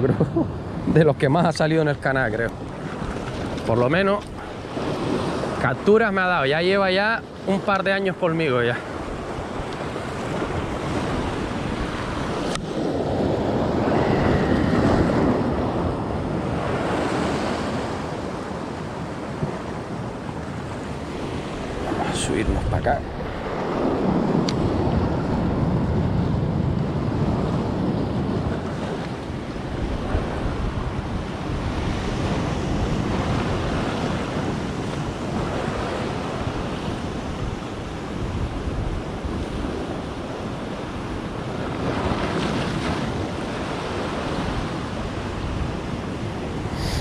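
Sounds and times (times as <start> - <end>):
sea waves breaking on shore: 0.0 - 47.0
wind buffeting microphone: 0.0 - 47.0.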